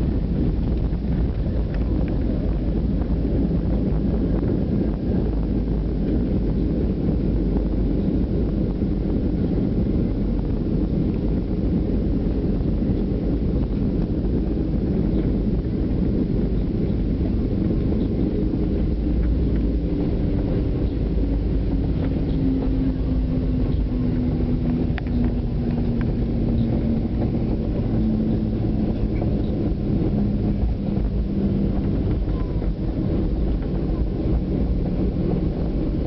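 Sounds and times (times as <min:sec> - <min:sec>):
jet airliner cabin rumble: 0:00.0 - 0:36.0.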